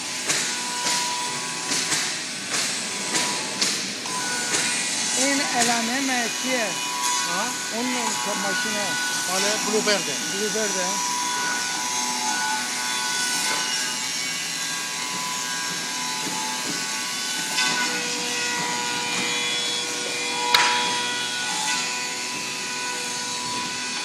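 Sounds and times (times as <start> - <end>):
woodworking machinery running: 0.0 - 24.0.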